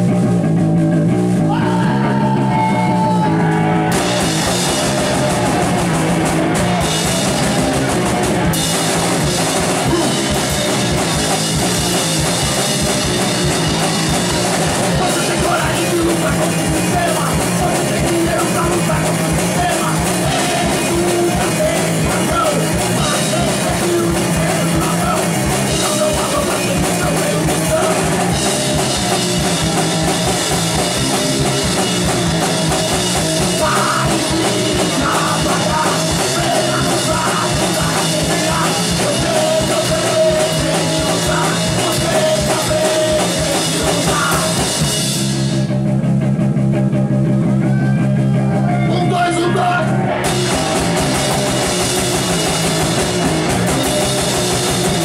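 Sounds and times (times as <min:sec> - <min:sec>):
electric guitars and bass: 0:00.0 - 0:55.0
rock band playing live: 0:00.0 - 0:55.0
drum kit with crashing cymbals: 0:03.8 - 0:45.7, 0:50.2 - 0:55.0.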